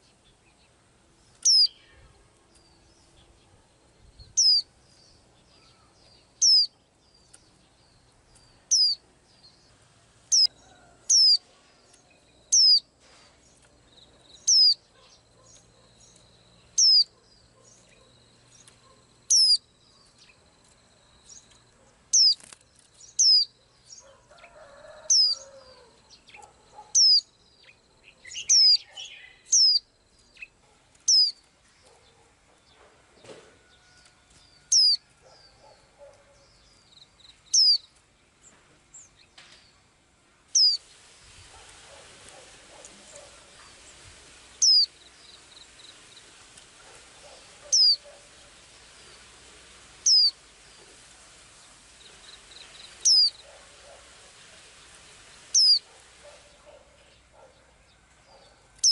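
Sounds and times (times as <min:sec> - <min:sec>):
small bird chirping: 0:00.0 - 0:32.7, 0:34.6 - 0:39.9, 0:40.5 - 0:40.9, 0:41.5 - 0:49.3, 0:50.0 - 0:54.1, 0:54.8 - 0:58.9.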